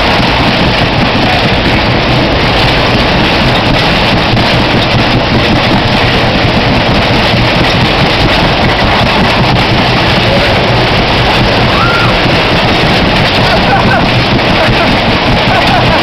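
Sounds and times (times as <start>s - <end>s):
fairground ride rumbling: 0.0s - 16.0s
wind noise on microphone: 0.0s - 16.0s.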